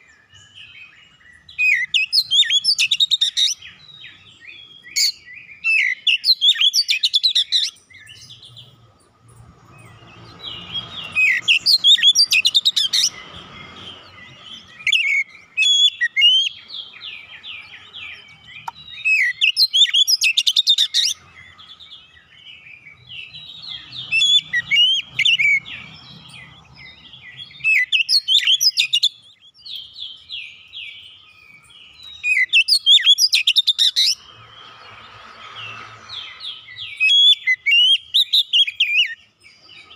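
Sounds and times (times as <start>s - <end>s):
bird singing whistled notes and trills: 0.0s - 39.9s.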